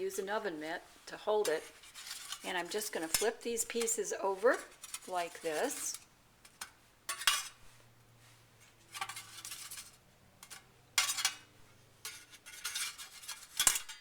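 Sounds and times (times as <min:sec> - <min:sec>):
utensil scraping metal pan: 0:01.2 - 0:07.7, 0:08.6 - 0:14.0.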